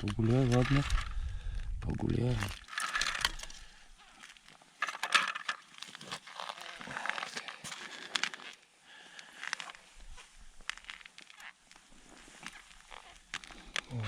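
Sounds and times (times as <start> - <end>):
crackling handling noise: 0.0 - 14.0.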